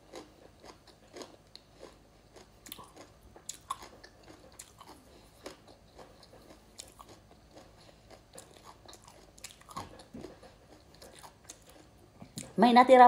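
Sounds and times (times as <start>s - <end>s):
person chewing crunchy food: 0.0s - 12.6s.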